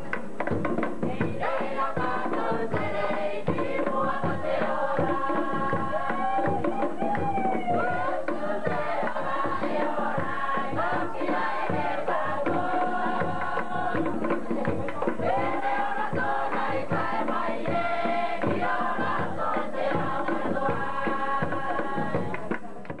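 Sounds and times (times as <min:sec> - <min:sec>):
fast drum beat: 0:00.0 - 0:23.0
voices singing and chanting: 0:00.0 - 0:23.0.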